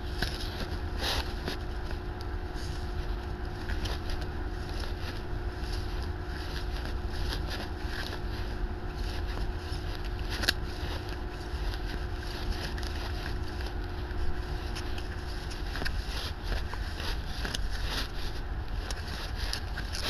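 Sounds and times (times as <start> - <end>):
cards sliding and flicking: 2.6 - 20.0.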